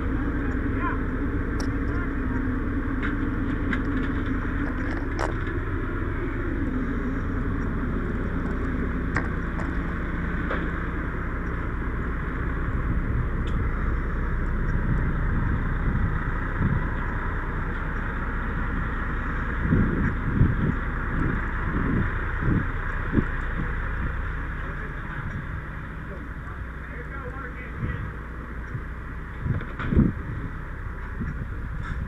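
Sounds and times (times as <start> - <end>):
road rumble: 0.0 - 32.0
vehicle engine running: 0.0 - 32.0.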